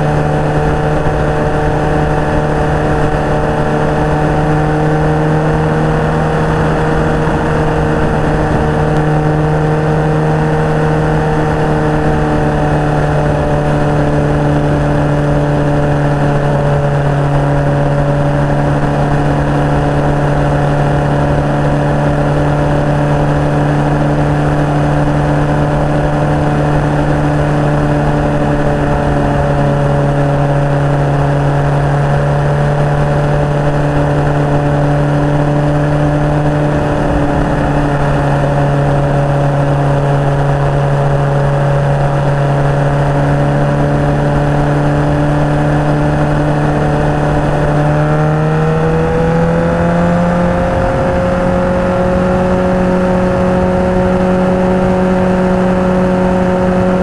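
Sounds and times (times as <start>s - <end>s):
motorcycle engine cruising: 0.0s - 57.0s
road noise: 0.0s - 57.0s
wind noise: 0.0s - 57.0s.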